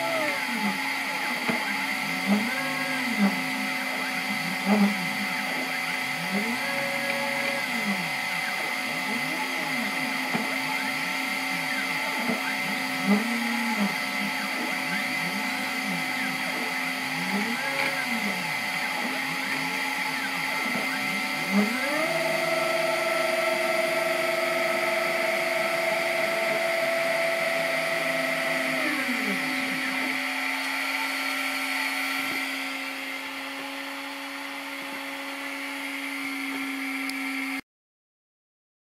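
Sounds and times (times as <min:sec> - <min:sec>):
steady hum: 0:00.0 - 0:37.6
stepper motors whining: 0:00.0 - 0:37.6.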